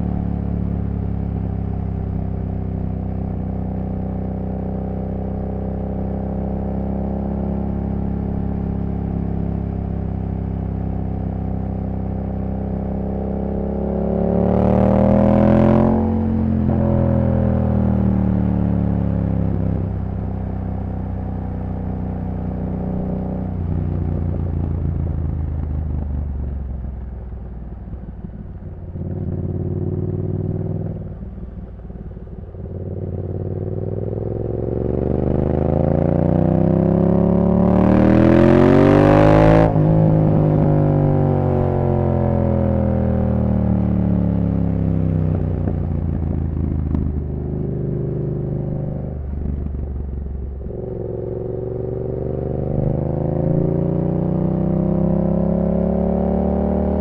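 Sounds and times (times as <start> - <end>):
motorcycle engine revving: 1.0 - 26.6, 27.9 - 57.0.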